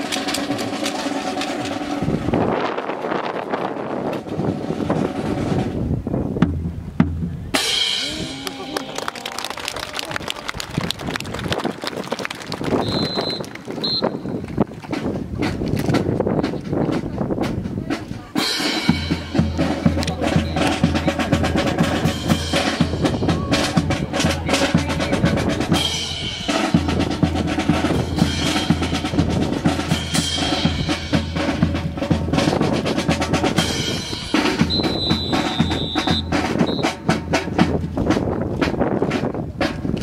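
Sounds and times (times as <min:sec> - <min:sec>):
drum-heavy march music: 0:00.0 - 0:08.4, 0:12.6 - 0:40.0.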